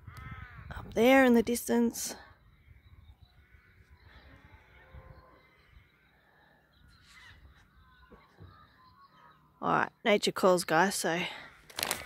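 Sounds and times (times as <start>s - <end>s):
faint distant bird calls: 0.0s - 11.9s.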